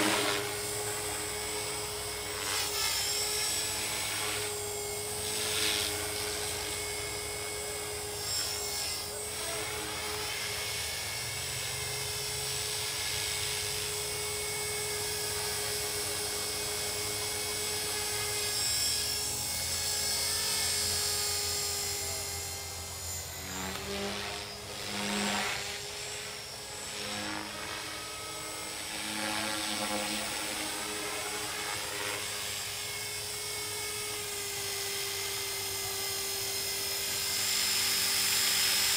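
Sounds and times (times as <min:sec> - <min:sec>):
rc helicopter motor whining: 0:00.0 - 0:38.9
rotor blade noise: 0:00.0 - 0:38.9.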